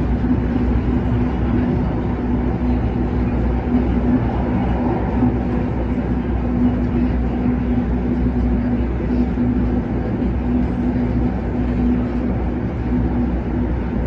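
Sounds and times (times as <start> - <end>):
electric train rumbling: 0.0 - 14.0
low hum: 0.0 - 14.0.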